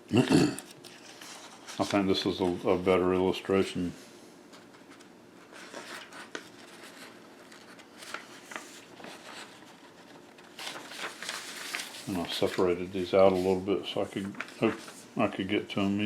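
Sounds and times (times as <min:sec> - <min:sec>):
paper rustling: 0:00.6 - 0:02.8, 0:04.5 - 0:16.0.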